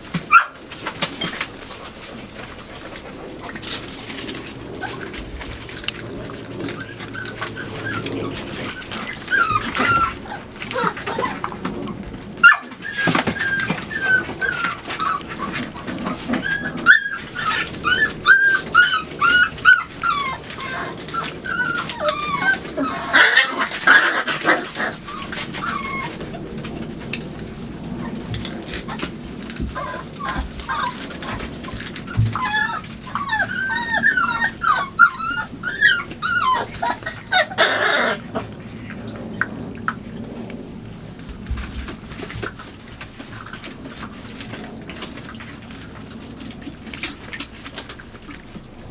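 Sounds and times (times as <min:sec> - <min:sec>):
puppies whimpering and yipping: 0:00.0 - 0:40.4.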